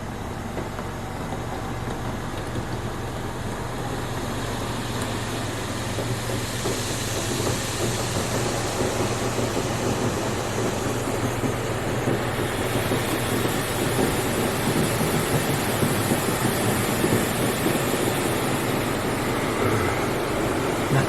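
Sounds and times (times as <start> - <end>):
water spray drumming on car: 0.4 - 21.0.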